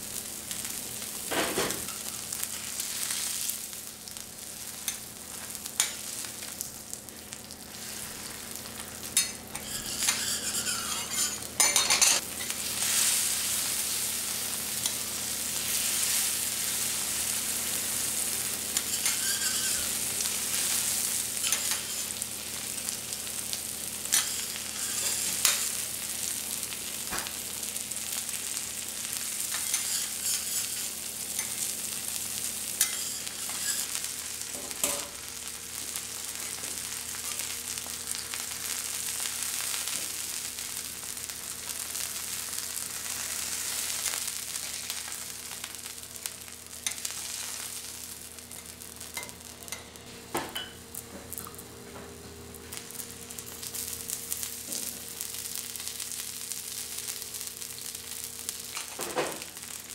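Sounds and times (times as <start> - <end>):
food sizzling on hot plate: 0.0 - 59.9.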